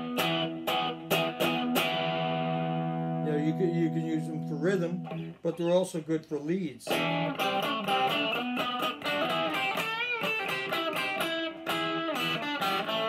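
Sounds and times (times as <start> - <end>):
electric guitar lead phrases: 0.0 - 5.7, 6.4 - 13.0.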